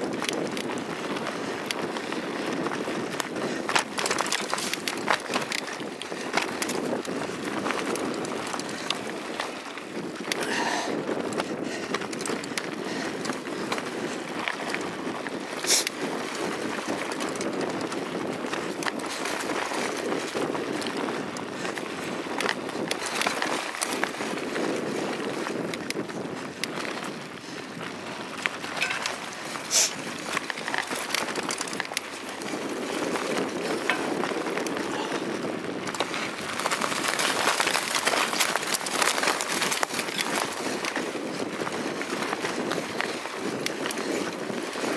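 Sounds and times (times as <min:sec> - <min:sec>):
bike rattles and clicks: 0:00.0 - 0:44.9
bike tyre noise on dirt: 0:00.0 - 0:44.9.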